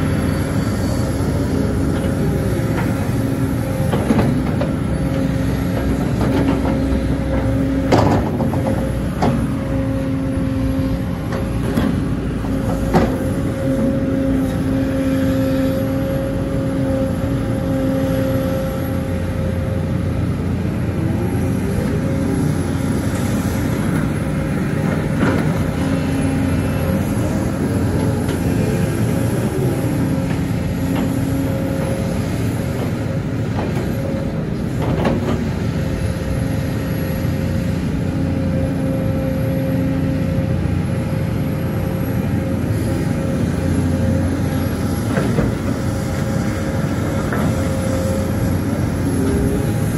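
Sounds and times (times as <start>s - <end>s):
excavator diesel engine running: 0.0s - 49.9s
hydraulic whine: 0.0s - 49.9s.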